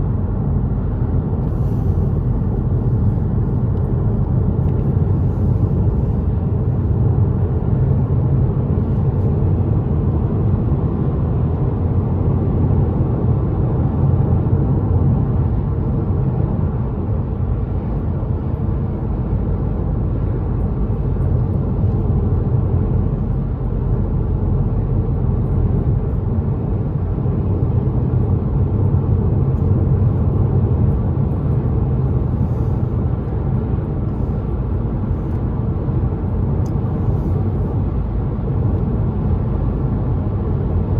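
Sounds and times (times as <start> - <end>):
car driving at highway speed: 0.0 - 40.9.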